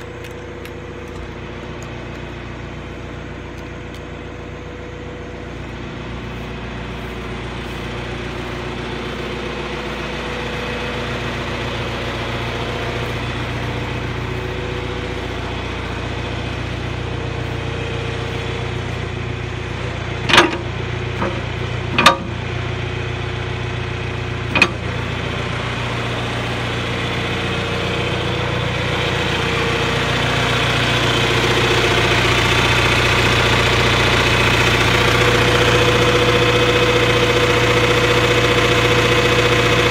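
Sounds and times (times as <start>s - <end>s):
backhoe engine idling: 0.0s - 39.9s.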